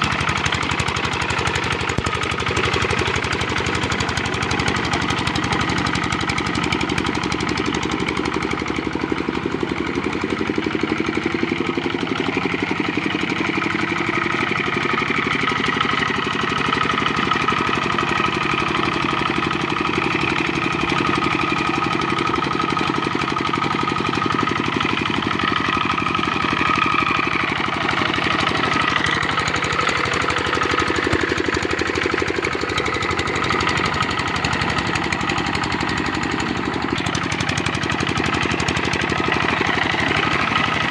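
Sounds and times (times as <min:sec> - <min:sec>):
diesel engine knocking: 0:00.0 - 0:40.9.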